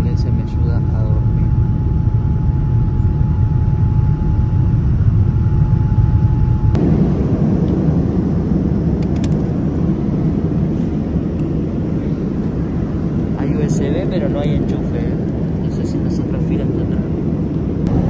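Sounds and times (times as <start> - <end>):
airplane engines rumbling: 0.0 - 18.0.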